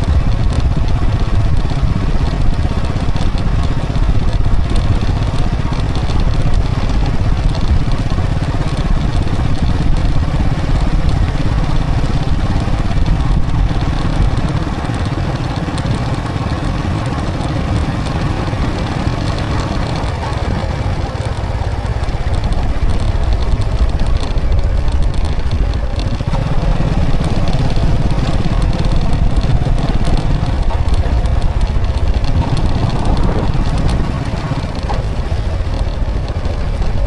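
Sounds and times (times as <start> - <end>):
motorcycle engine rumble: 0.0 - 37.0
road and wind noise: 0.0 - 37.0.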